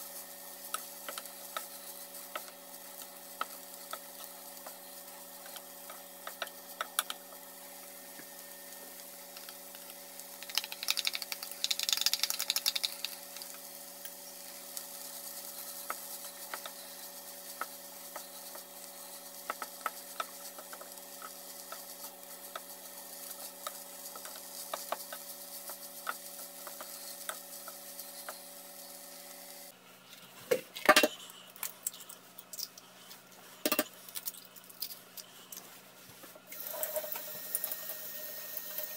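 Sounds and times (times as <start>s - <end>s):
light sizzle: 0.0s - 29.7s, 31.6s - 38.9s.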